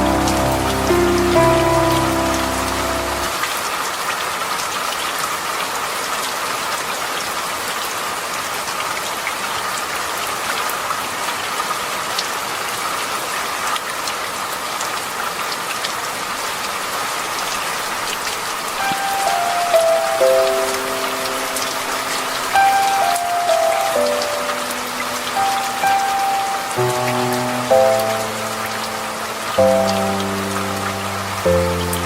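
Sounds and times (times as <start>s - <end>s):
rain hissing on a surface: 0.0s - 32.0s.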